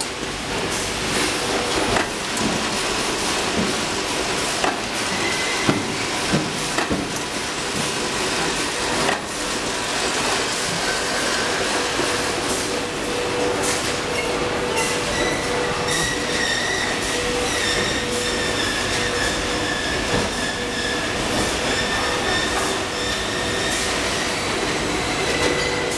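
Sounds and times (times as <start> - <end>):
factory machinery hum: 0.0 - 25.9.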